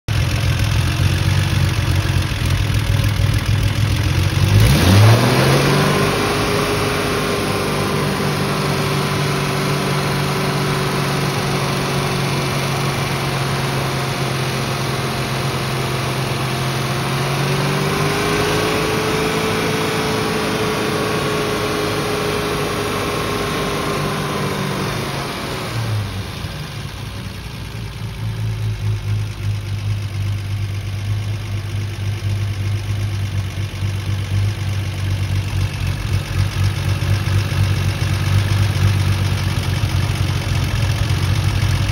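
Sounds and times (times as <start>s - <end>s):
car engine idling and revving: 0.1s - 41.9s.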